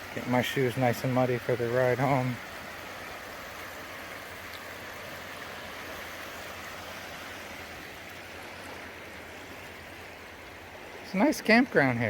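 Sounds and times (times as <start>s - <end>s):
small waves washing on shore: 0.0s - 12.0s.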